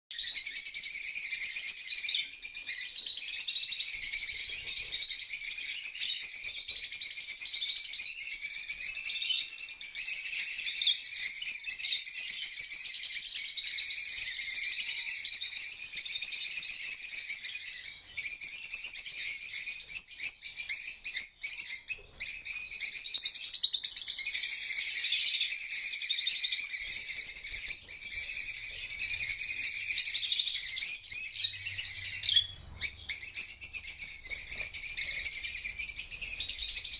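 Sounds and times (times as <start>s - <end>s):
parrots chattering and chirping: 0.1s - 36.9s.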